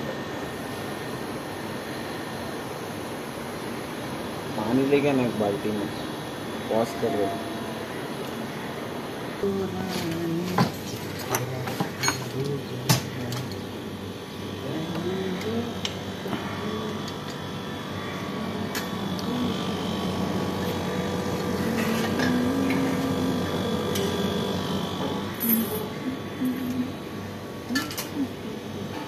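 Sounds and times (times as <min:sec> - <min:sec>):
air conditioner unit humming: 0:00.0 - 0:29.0.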